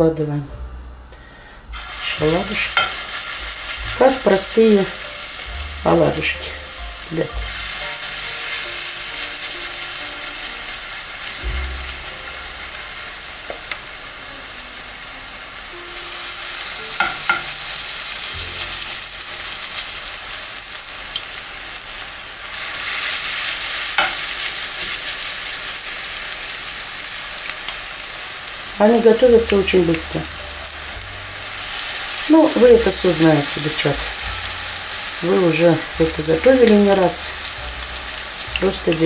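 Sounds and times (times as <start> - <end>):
batter sizzling in hot oil: 1.7 - 39.0.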